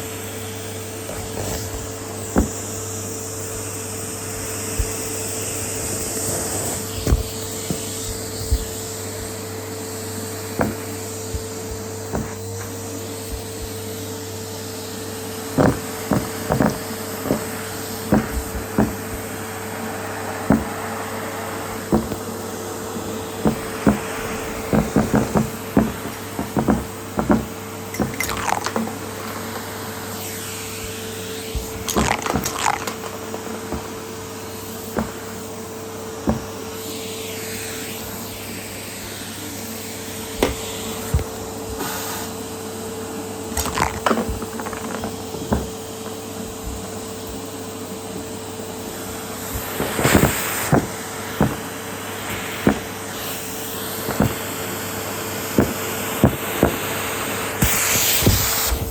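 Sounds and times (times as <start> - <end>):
vacuum cleaner humming: 0.0 - 58.9.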